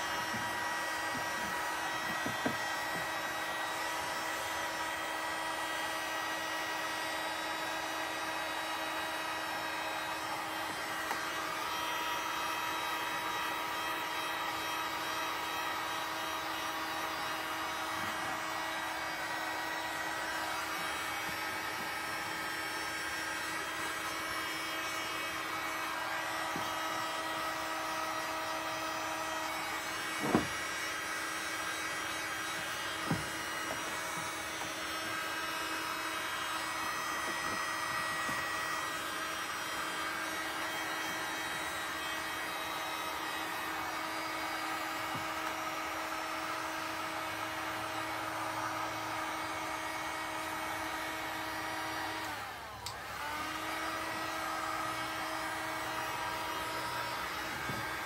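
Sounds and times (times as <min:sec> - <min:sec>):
heat gun fan whine: 0:00.0 - 0:58.0.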